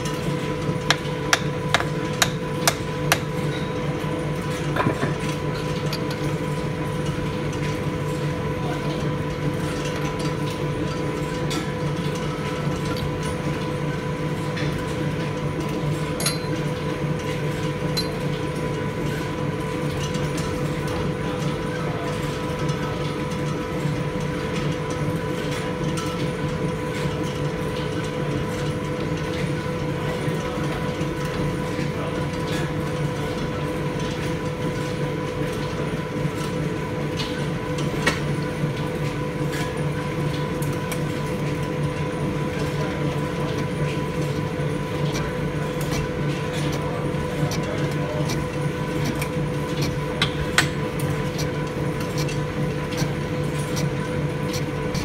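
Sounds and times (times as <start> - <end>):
lathe humming and rattling: 0.0 - 55.0.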